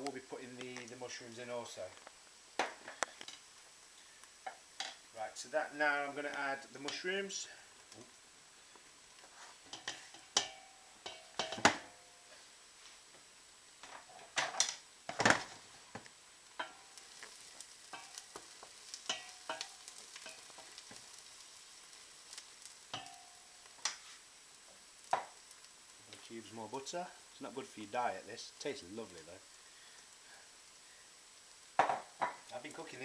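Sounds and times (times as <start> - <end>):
faint sizzle in pan: 0.0 - 33.0.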